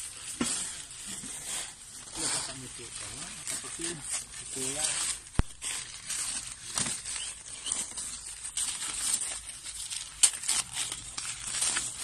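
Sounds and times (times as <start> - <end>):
paper bags rustling: 0.0 - 12.0.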